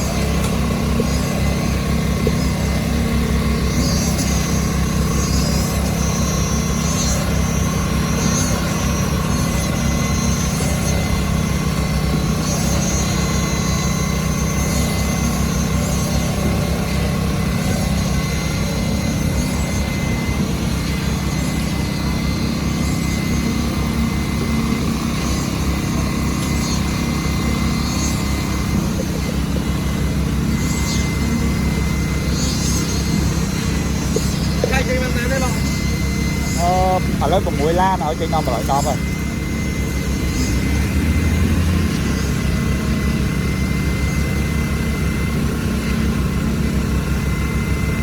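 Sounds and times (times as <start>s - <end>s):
engine running: 0.0s - 48.0s
thin high whine: 0.0s - 48.0s.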